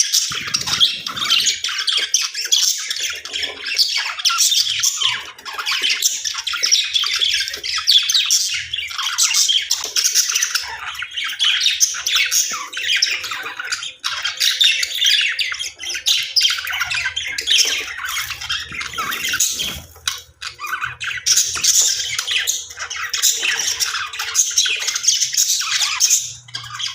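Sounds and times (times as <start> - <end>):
budgerigars chattering and squawking: 0.0 - 26.9.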